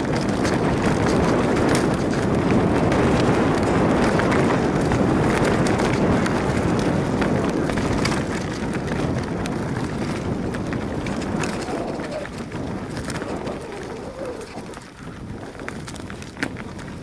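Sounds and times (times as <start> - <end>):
bike rattling and clicking: 0.0 - 17.0
bike tyres rumbling on dirt: 0.0 - 17.0
wind rush on microphone: 0.0 - 17.0.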